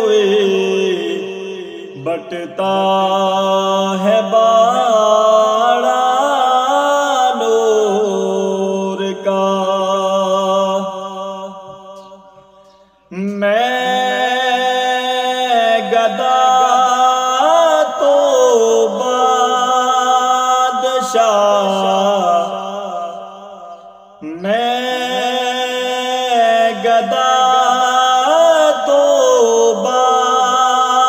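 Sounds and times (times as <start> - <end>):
man singing unaccompanied: 0.0 - 31.0.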